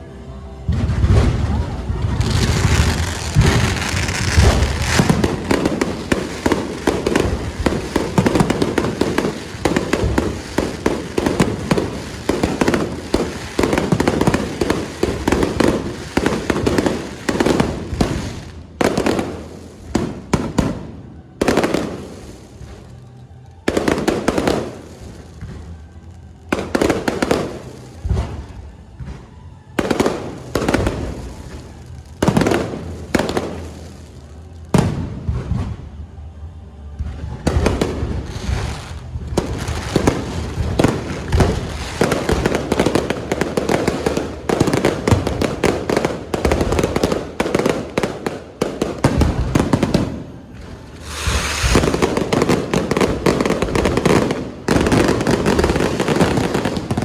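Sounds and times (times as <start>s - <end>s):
fireworks banging and crackling: 0.0s - 57.0s.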